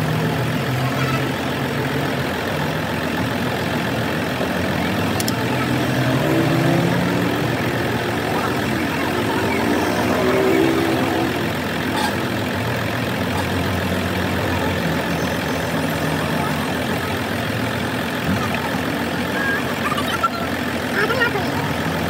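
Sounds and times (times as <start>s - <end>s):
heavy engine idling: 0.0s - 22.0s.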